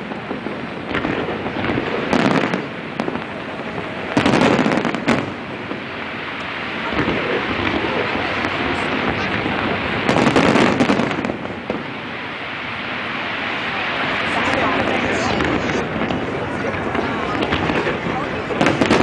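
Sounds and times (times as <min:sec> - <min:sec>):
fireworks crackling and bursting: 0:00.0 - 0:19.0.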